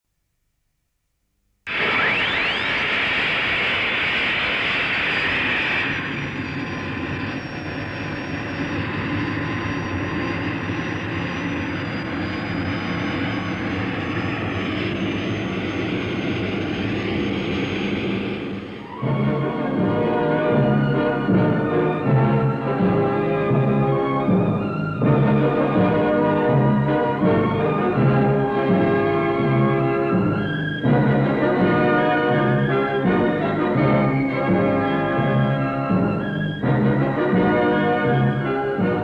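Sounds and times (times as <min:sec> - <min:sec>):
helicopter turbine engine starting: 0:01.7 - 0:38.8.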